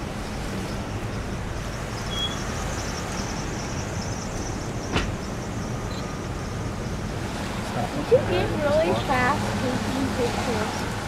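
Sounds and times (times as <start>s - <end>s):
steady rumbling outdoor noise: 0.0s - 11.0s.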